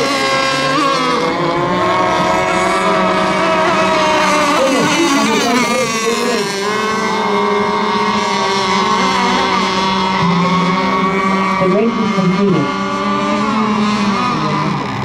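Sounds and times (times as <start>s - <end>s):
rc boat motors whining: 0.0s - 15.0s.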